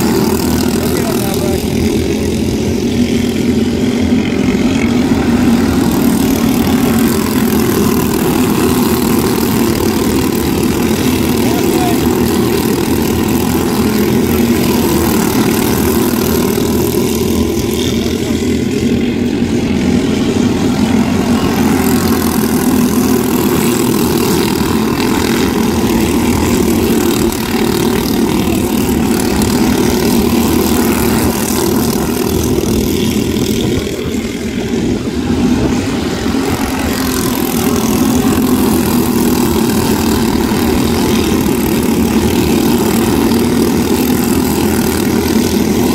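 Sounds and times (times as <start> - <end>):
race car engines droning: 0.0 - 45.9.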